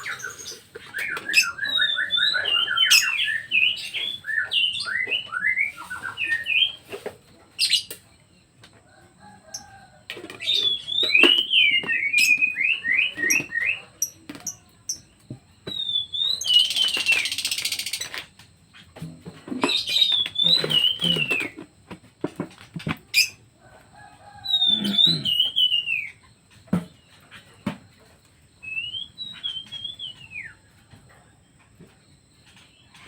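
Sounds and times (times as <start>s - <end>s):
songbird singing: 0.0s - 33.0s.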